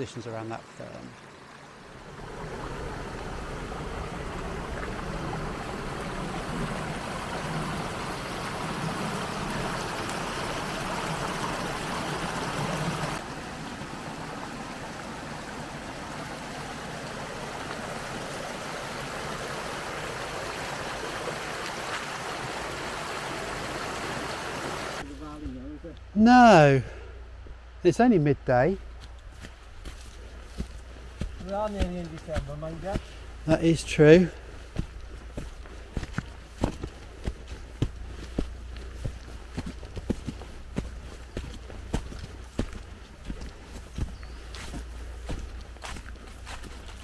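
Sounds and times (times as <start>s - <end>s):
brook running over rocks: 0.0s - 25.8s, 28.6s - 47.0s.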